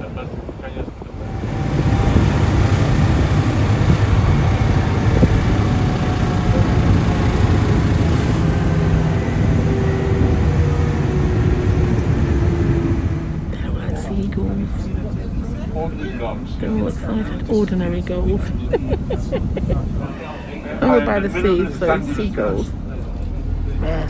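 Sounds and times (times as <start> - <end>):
truck engine low rumble: 0.0 - 24.0.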